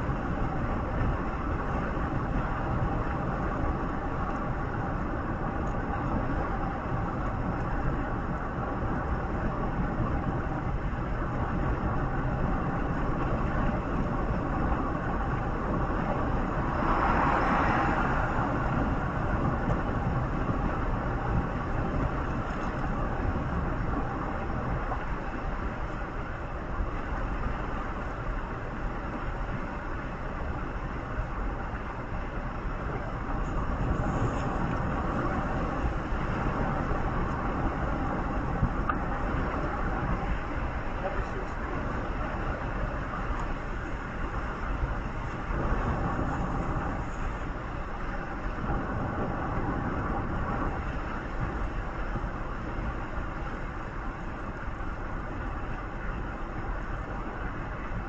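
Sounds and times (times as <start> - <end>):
vehicle road noise: 0.0 - 58.0.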